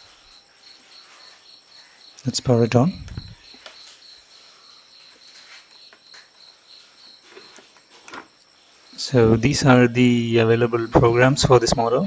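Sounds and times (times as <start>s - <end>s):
cricket chirring: 0.0s - 12.0s.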